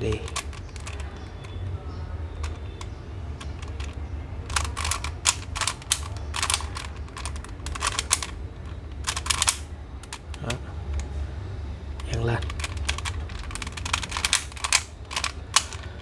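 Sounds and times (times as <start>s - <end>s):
plastic puzzle clicking: 0.0s - 1.7s, 2.4s - 11.2s, 11.9s - 16.0s.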